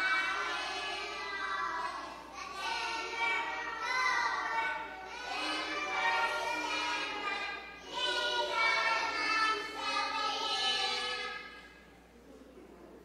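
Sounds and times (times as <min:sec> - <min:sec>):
children singing: 0:00.0 - 0:11.8.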